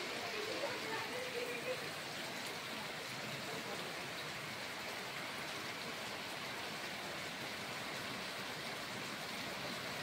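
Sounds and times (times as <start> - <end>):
heavy rain on a road: 0.0 - 10.0.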